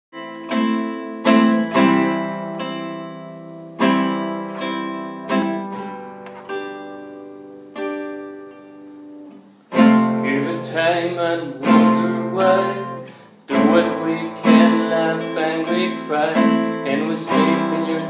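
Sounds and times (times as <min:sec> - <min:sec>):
acoustic guitar chords strummed: 0:00.1 - 0:18.0.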